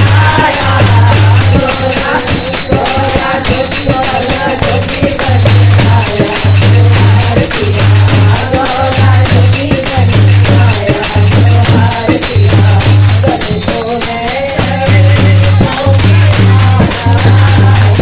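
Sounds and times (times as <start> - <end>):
jingling percussion: 0.0 - 18.0
rhythmic hand clapping: 0.0 - 18.0
women singing over loudspeaker: 0.0 - 18.0.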